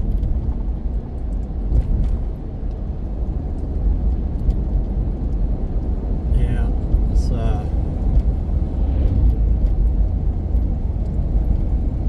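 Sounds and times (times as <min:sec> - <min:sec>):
car road noise inside cabin: 0:00.0 - 0:12.0.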